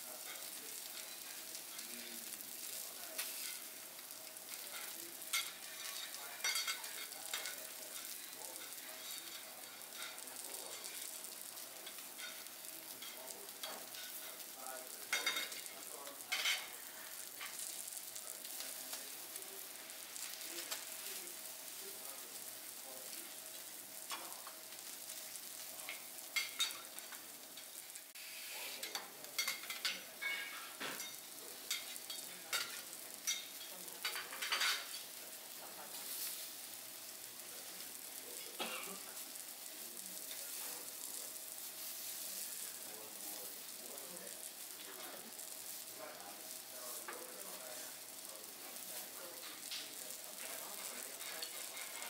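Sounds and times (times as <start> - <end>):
food sizzling on a griddle: 0.0 - 52.0.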